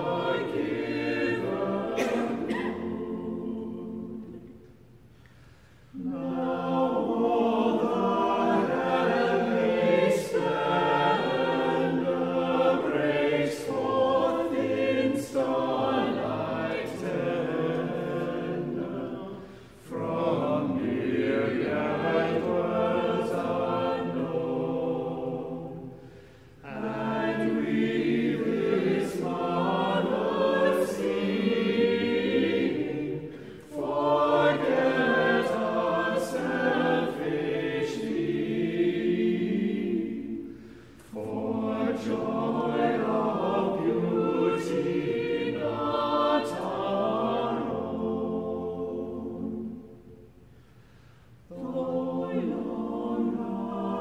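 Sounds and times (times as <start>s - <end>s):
a cappella choir singing: 0.0s - 54.0s.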